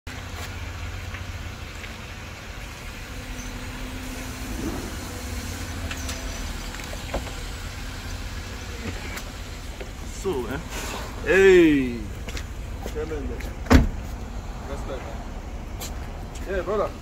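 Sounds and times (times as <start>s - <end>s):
motor vehicle rumble: 0.1s - 17.0s.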